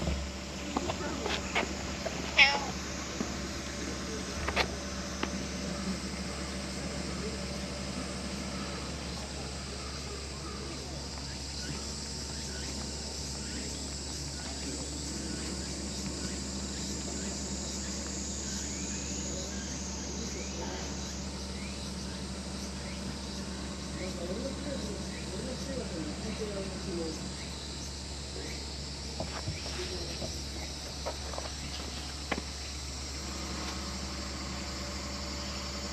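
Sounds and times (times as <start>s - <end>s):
low hum: 0.0s - 29.2s
insects chirping: 0.0s - 35.9s.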